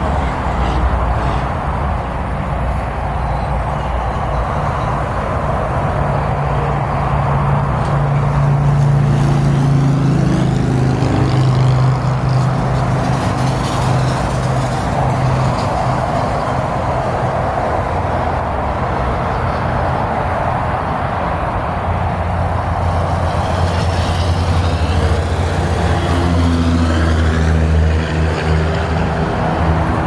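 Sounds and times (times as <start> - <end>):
cars passing on highway: 0.0 - 30.0.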